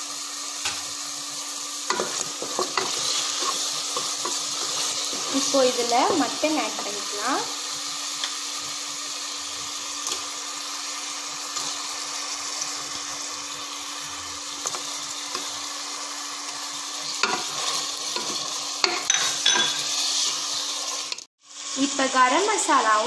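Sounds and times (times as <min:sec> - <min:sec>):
masala sizzling in oil: 0:00.0 - 0:23.0.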